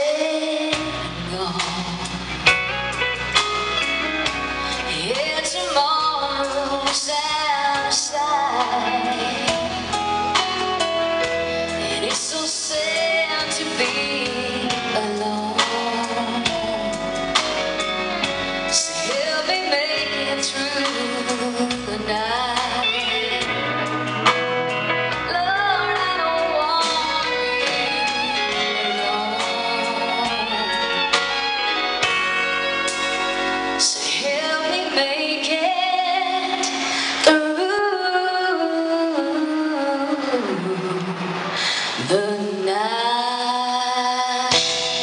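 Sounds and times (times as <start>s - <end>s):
woman singing country song: 0.0s - 3.1s, 3.7s - 45.0s
guitar accompaniment: 0.0s - 45.0s.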